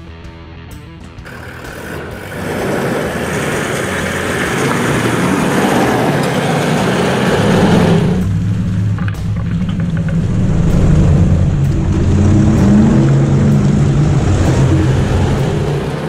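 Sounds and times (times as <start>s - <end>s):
engine working hard: 0.7s - 16.0s
tyres churning mud: 1.2s - 16.0s.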